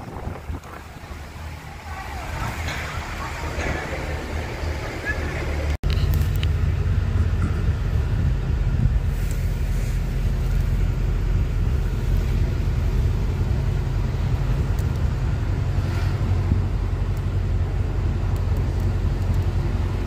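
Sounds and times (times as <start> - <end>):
road rumble: 0.0 - 20.0
vehicle engine running: 0.0 - 20.0.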